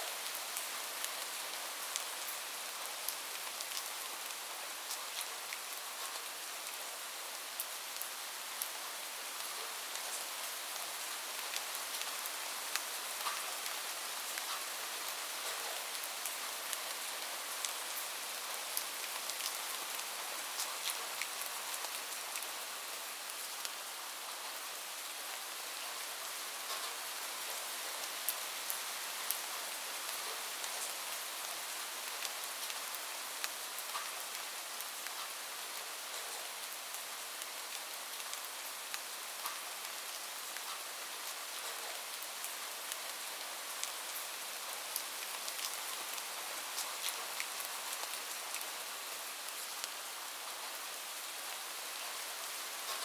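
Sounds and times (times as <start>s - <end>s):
light rain falling: 0.0s - 53.0s
raindrops pattering on a surface: 7.6s - 23.8s, 26.6s - 53.0s.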